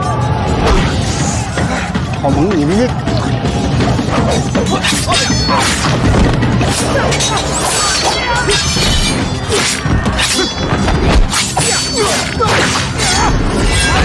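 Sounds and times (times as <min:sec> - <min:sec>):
action music: 0:00.0 - 0:14.0.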